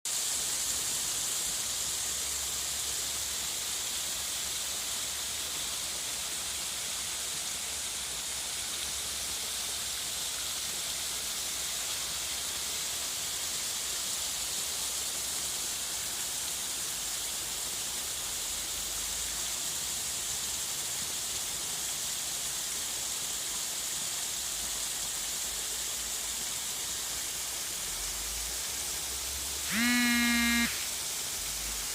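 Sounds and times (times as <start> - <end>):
white-noise hiss: 0.1 - 31.9.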